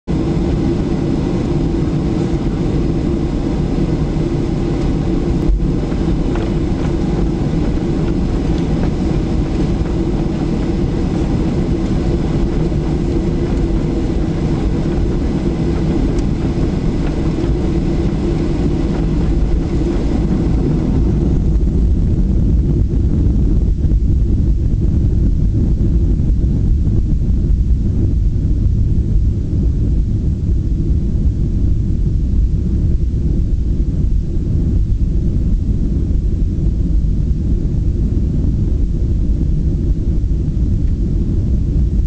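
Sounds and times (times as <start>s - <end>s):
airplane cabin engine rumble: 0.0s - 42.0s.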